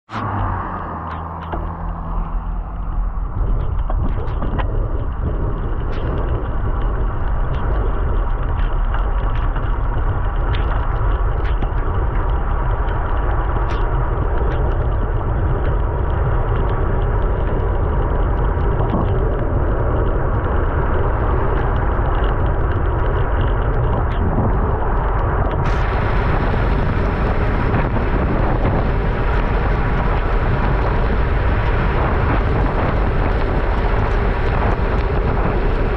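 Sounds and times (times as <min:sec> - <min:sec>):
wind rushing: 0:00.1 - 0:35.9
bicycle on wet road: 0:00.2 - 0:35.9
small ticks and clicks: 0:00.4 - 0:35.9.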